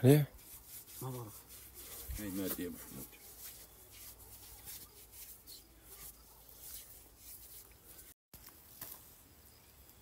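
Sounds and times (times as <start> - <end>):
hands rubbing chalky powder: 0.0 - 8.8.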